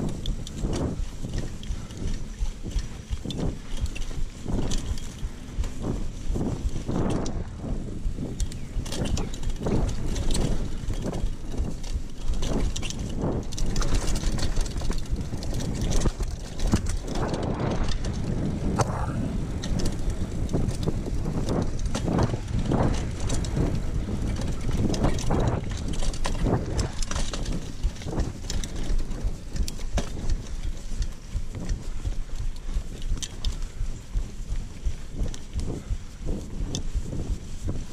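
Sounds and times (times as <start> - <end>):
bike rattling and knocking: 0.0 - 37.9
bike tyre rumble on dirt: 0.0 - 37.9
wind noise on microphone: 0.0 - 37.9.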